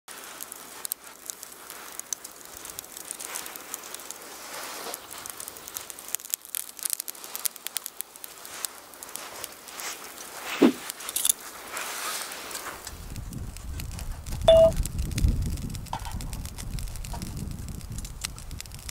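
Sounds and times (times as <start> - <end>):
charcoal crackling and popping: 0.1 - 18.9.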